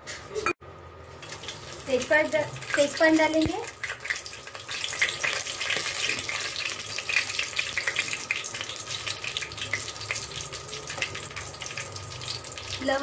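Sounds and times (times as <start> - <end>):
leaves sizzling in hot oil: 1.1 - 13.0.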